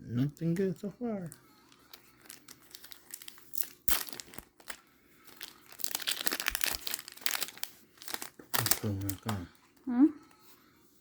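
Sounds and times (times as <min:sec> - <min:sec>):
foil wrapper crinkling: 0:00.4 - 0:09.6.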